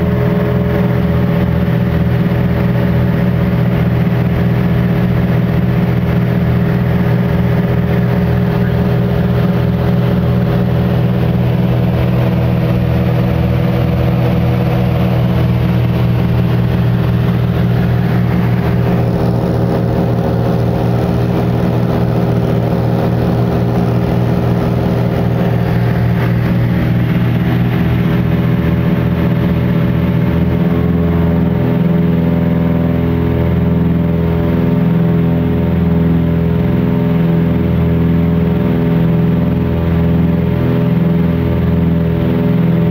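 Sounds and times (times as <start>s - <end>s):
twin propeller plane engines droning: 0.0s - 42.9s.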